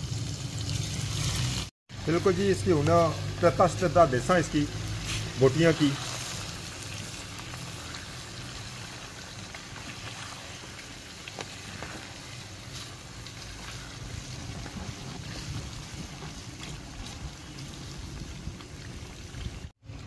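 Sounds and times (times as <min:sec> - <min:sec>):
chicken sizzling in hot oil: 0:00.0 - 0:19.9.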